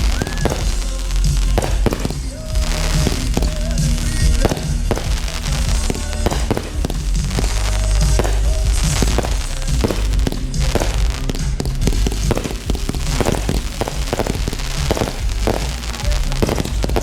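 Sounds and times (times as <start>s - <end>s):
fireworks bangs and cracks: 0.0s - 17.0s
low rumble: 0.0s - 17.0s
music playing: 0.0s - 17.0s.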